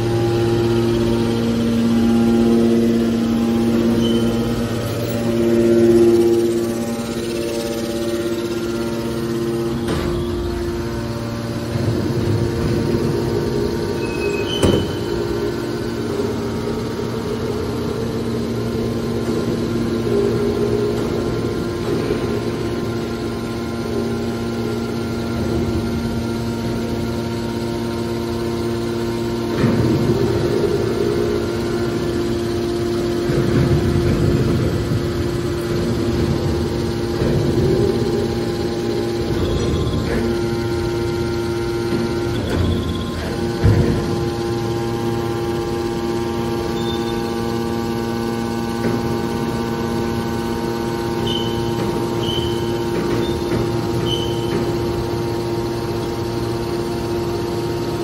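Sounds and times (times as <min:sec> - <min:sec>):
hydraulic pump humming: 0:00.0 - 0:58.0.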